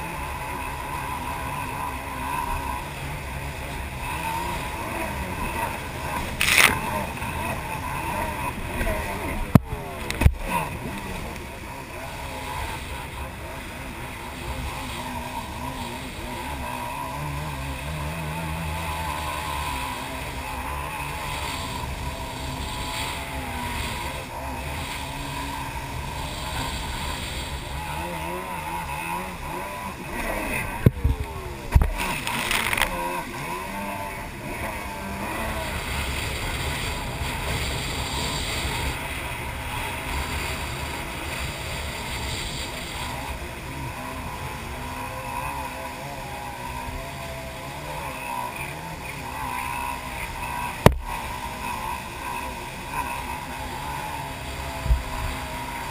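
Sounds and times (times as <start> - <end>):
jet ski engine running: 0.0 - 55.9
water rushing past hull: 0.0 - 55.9
splashing spray: 2.3 - 48.0.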